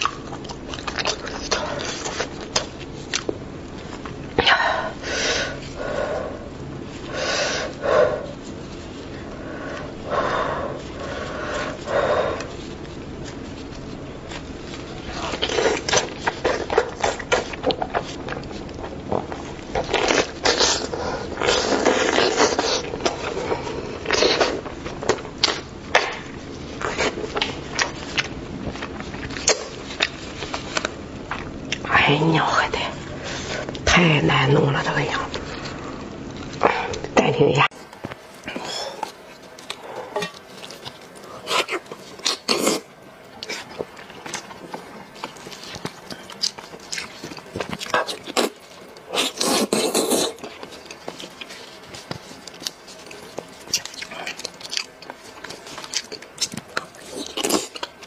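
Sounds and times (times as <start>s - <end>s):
gloves crackling on wet meat: 0.0s - 31.8s, 37.7s - 58.0s.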